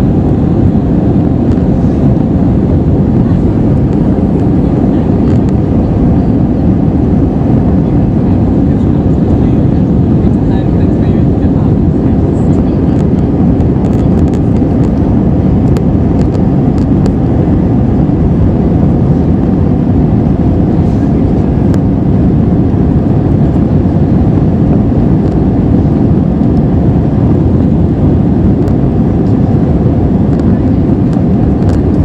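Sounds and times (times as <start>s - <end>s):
airliner cabin engine roar: 0.0s - 32.0s.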